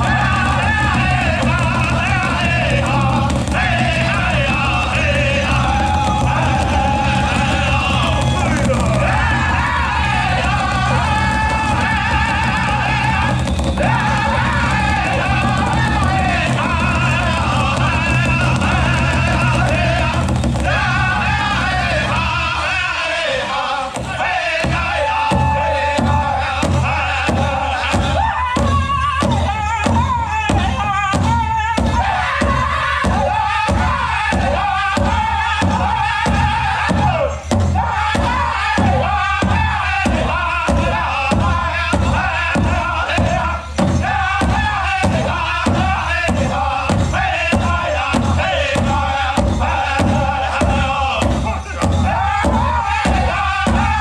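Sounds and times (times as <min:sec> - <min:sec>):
large bass drum beats: 0:00.0 - 0:54.0
men singing high in unison: 0:00.0 - 0:54.0.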